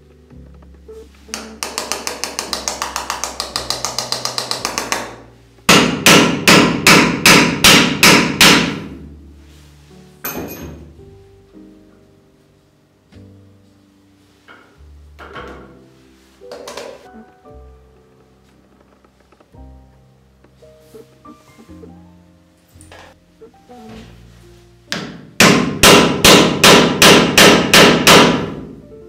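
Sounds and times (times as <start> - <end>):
background music: 0.0 - 29.0.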